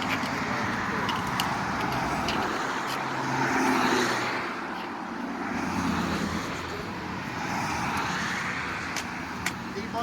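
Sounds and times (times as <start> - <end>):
car engine: 0.0 - 10.0
tyre noise: 0.0 - 10.0.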